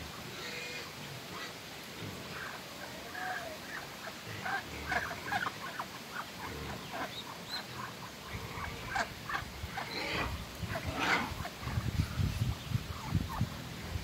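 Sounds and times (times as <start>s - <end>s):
ducks and ducklings peeping: 0.0s - 14.0s.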